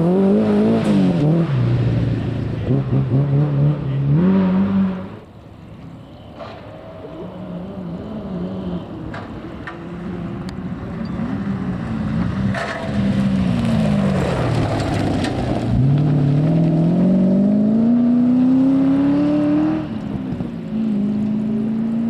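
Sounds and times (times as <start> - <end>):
rally car engine revving: 0.0 - 5.3, 6.4 - 22.0.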